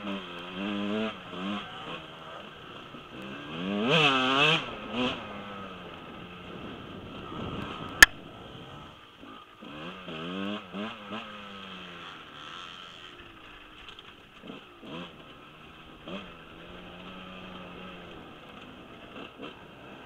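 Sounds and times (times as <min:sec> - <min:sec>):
dirt bike engine revving: 0:00.0 - 0:06.4, 0:09.6 - 0:20.0.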